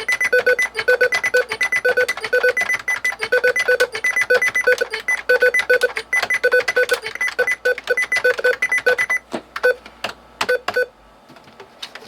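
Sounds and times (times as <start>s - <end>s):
short electronic beeps: 0.0s - 9.8s
keyboard keys clicking: 0.0s - 10.8s.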